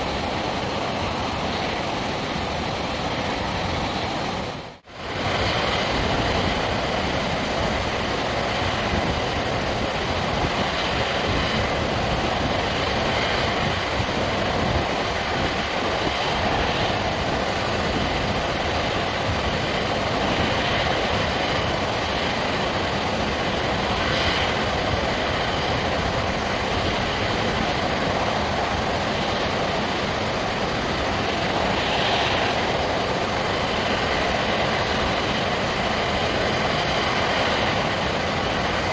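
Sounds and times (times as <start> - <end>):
water rushing over dam spillway: 0.0 - 38.9.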